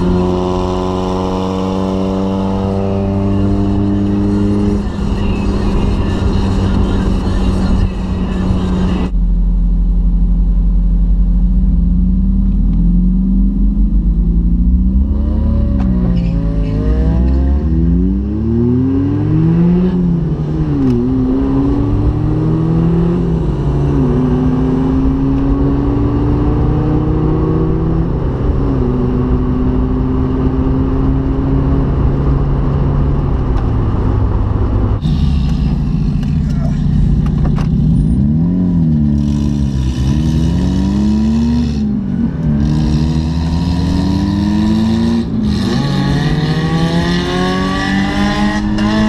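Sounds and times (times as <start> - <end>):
car engine accelerating through gears: 0.0 - 9.1, 11.6 - 49.0.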